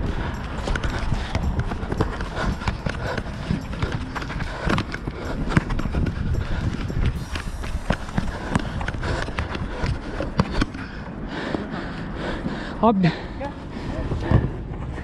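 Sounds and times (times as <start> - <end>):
low rumble: 0.0 - 12.5
running footsteps on artificial turf: 0.0 - 12.6.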